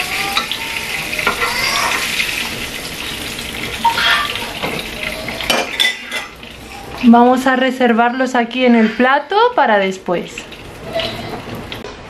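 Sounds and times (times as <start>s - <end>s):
hot oil sizzling in a frying pan: 0.0s - 11.9s.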